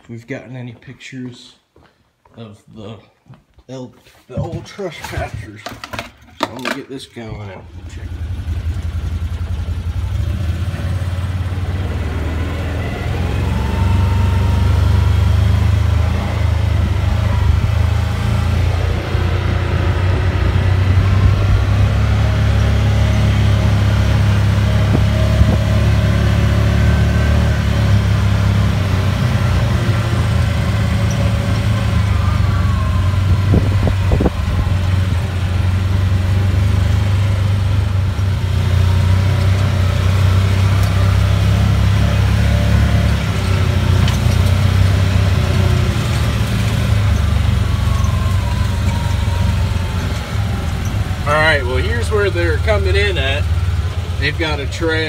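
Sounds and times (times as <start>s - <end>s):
off-road vehicle engine running: 7.2s - 55.0s.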